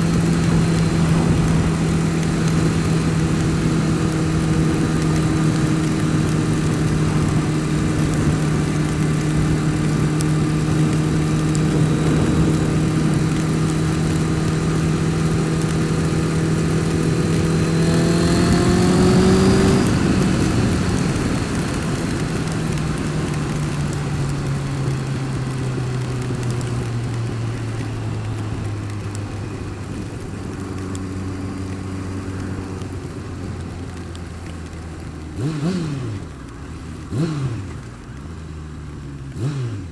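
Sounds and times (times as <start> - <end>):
motorcycle engine running: 0.0 - 39.9
weird engine noise: 0.0 - 39.9.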